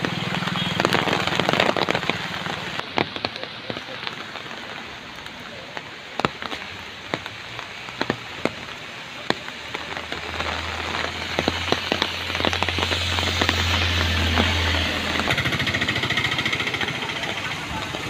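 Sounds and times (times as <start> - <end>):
heavy rain pouring: 0.0 - 18.0
raindrops tapping nearby: 0.0 - 18.0.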